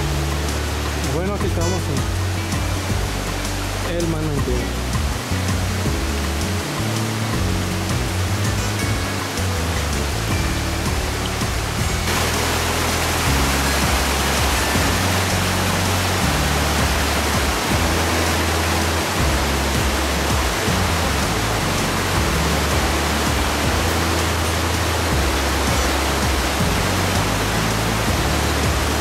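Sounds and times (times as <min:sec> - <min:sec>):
background music with bass: 0:00.0 - 0:29.0
water tumbling over rocks: 0:00.0 - 0:29.0.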